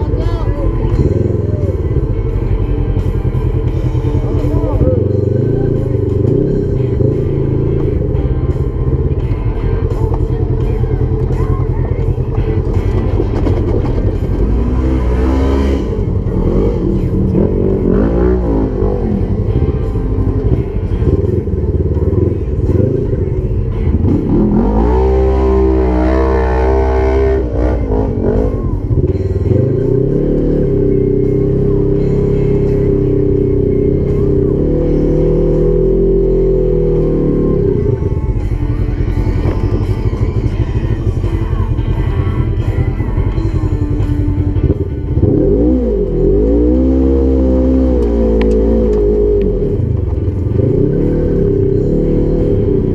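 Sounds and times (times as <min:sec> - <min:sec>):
off-road vehicle engine revving: 0:00.0 - 0:52.9.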